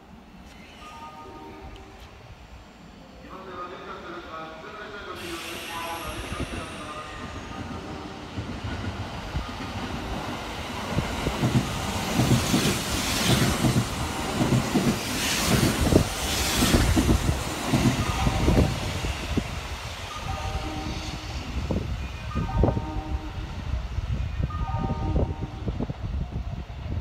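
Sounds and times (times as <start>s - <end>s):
train passing at speed: 0.0s - 27.0s.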